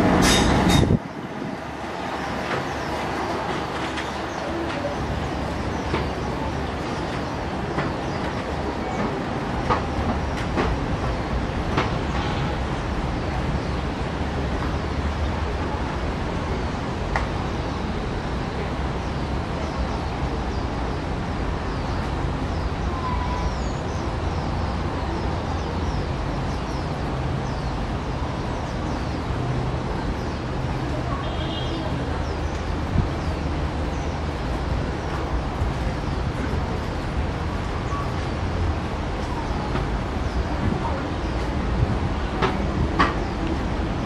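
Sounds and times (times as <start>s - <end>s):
station platform rumble and hiss: 0.0s - 44.0s.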